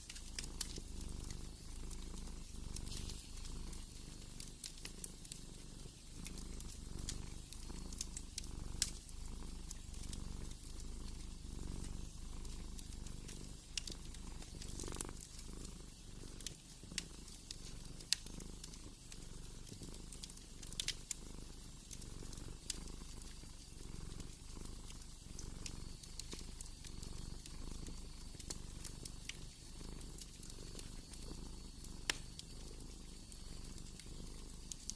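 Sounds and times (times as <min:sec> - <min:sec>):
cat purring: 0:00.0 - 0:34.9
fire crackling and popping: 0:00.0 - 0:34.9.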